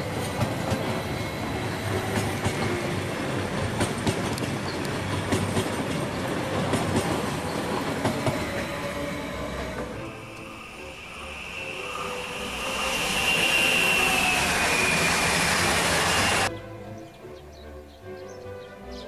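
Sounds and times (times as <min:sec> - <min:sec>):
train wheels rolling on rails: 0:00.0 - 0:16.5.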